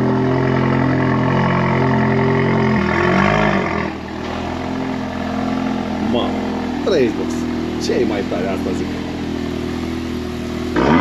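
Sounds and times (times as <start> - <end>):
car engine revving loudly: 0.0 - 11.0.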